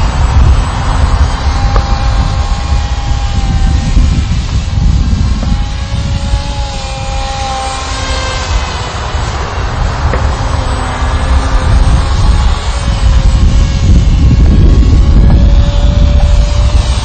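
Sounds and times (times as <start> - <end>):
electric motor and propeller whining: 0.0 - 17.0
wind rumble on microphone: 0.0 - 17.0.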